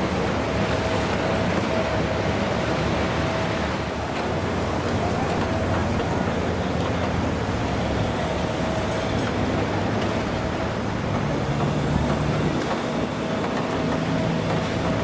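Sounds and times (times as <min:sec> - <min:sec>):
engine humming: 0:00.0 - 0:15.0
ocean surf: 0:00.0 - 0:15.0
wind: 0:00.0 - 0:15.0.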